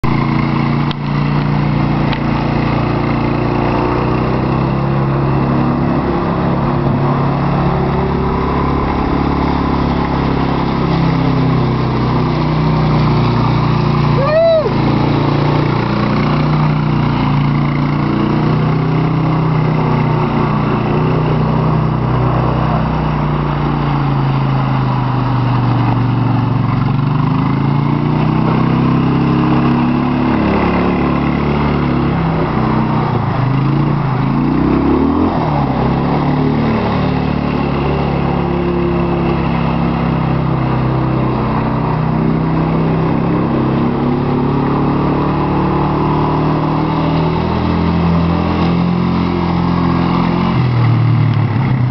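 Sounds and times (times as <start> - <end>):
single-cylinder atv engine revving: 0.0 - 51.9.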